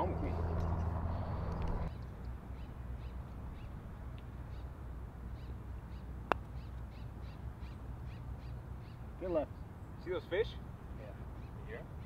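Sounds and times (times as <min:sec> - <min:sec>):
birds chirping: 0:00.0 - 0:12.0
low outdoor noise: 0:00.0 - 0:12.0.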